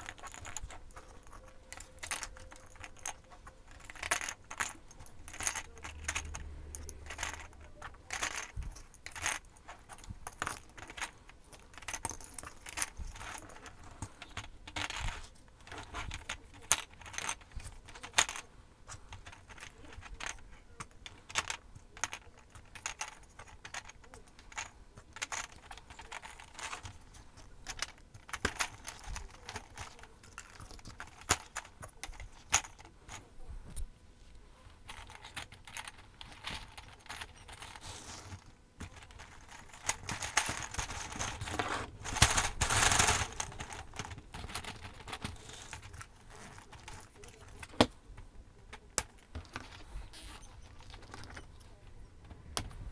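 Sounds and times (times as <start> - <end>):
dense rattle of ornaments: 0.0 - 33.8, 34.8 - 47.8.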